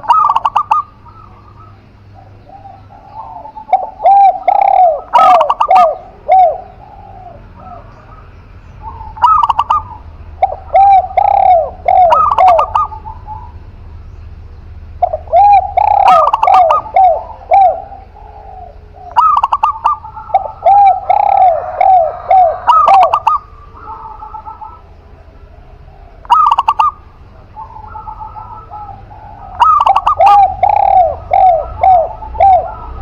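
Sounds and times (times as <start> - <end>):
doves cooing: 0.0 - 33.0.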